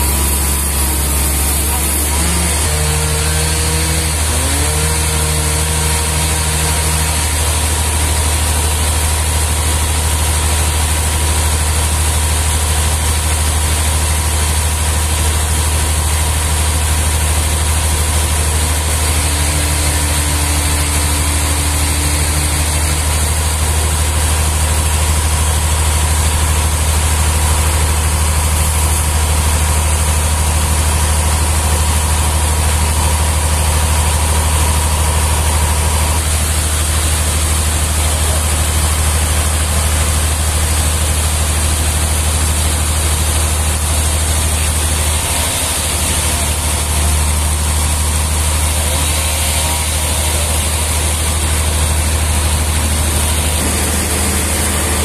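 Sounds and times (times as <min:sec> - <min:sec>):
sawmill engine idling: 0:00.0 - 0:55.0.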